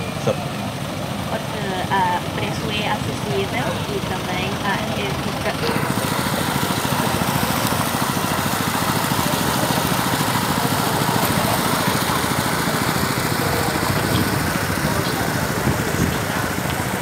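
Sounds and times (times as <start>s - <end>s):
farm machine engine throbbing: 0.0s - 17.0s.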